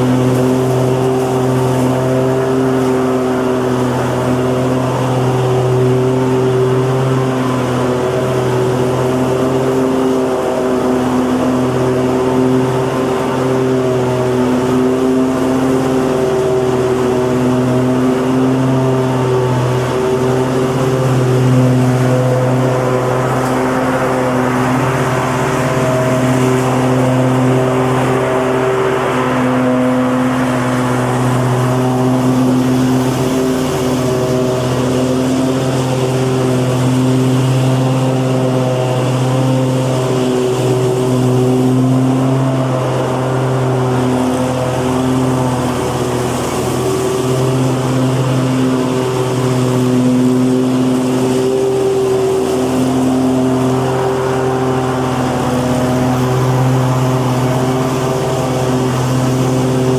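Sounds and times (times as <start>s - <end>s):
lawn mower engine drone: 0.0s - 59.9s.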